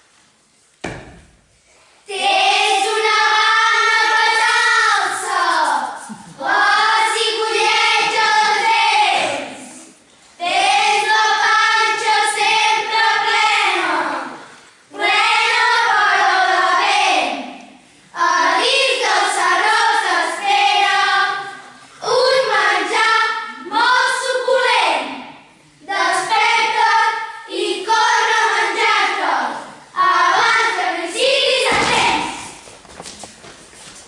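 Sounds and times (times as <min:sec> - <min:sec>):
children singing: 0:02.1 - 0:09.8, 0:10.4 - 0:17.4, 0:18.2 - 0:24.8, 0:25.9 - 0:32.6.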